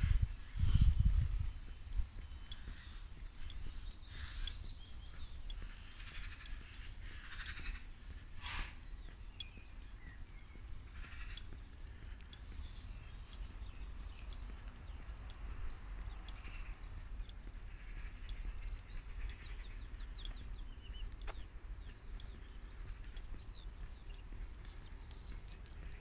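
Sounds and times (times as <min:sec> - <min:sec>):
songbirds chirping: 0:00.0 - 0:26.0
wind rumble on microphone: 0:00.0 - 0:26.0
faint sharp ticks: 0:00.5 - 0:26.0.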